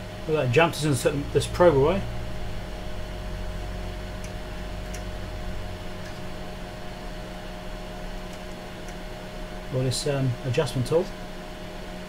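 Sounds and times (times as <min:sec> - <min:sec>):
electrical hum and fan noise: 0:00.0 - 0:12.0.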